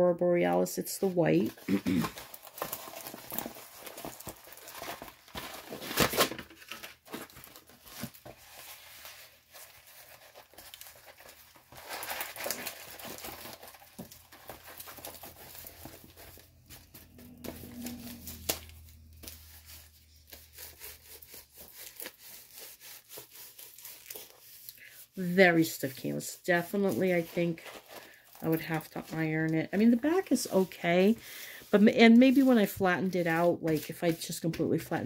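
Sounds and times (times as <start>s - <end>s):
plastic canvas crinkling: 1.4s - 35.0s.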